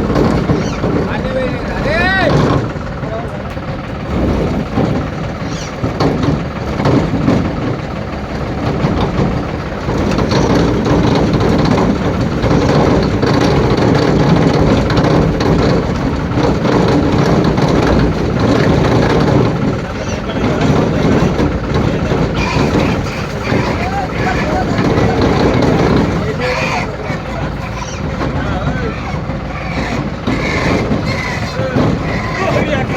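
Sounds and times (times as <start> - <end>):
combine harvester engine running: 0.0 - 32.9.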